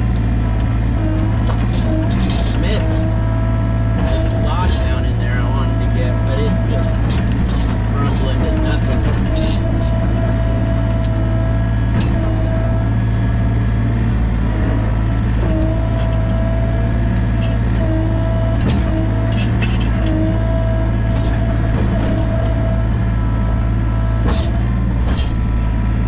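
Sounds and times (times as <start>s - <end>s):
excavator engine hum: 0.0s - 26.0s
whining tone: 0.0s - 26.0s.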